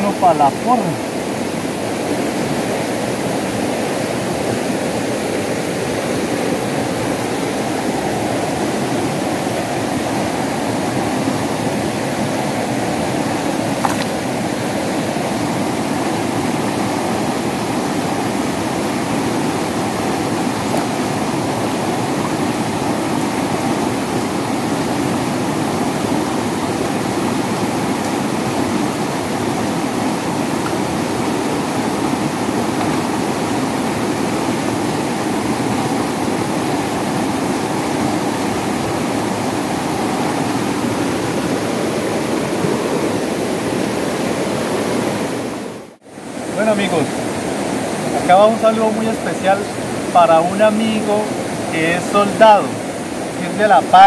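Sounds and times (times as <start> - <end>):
river current rushing: 0.0 - 54.0.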